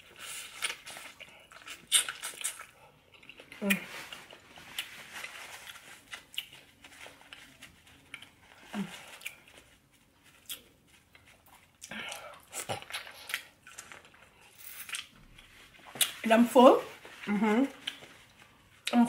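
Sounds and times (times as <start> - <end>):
chewing and lip smacks: 0.3 - 8.4, 9.1 - 16.2, 17.7 - 19.0.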